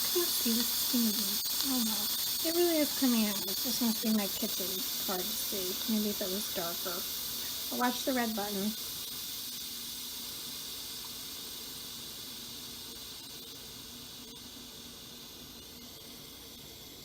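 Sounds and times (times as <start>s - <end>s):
steam hissing from valve: 0.0s - 17.0s.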